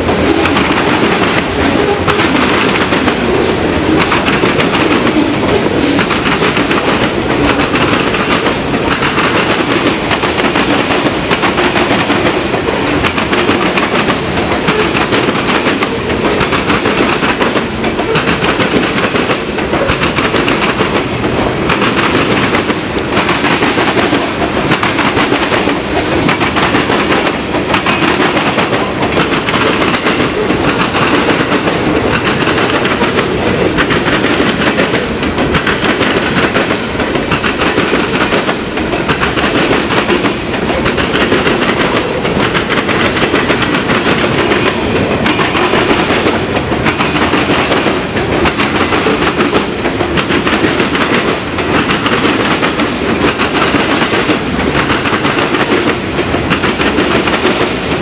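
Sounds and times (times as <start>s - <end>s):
freight train wheels clattering: 0.0s - 58.0s.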